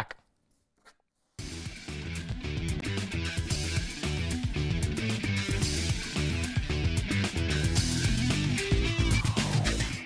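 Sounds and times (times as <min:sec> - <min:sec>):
instrumental guitar music: 0:01.5 - 0:10.0.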